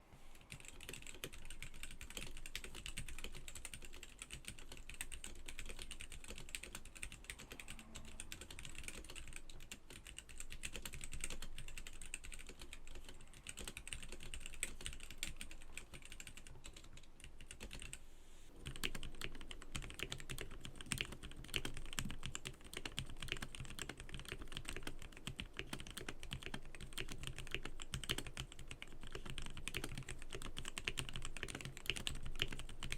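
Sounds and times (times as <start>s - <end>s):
fast typing on mechanical keyboard: 0.5s - 18.0s, 18.6s - 32.9s.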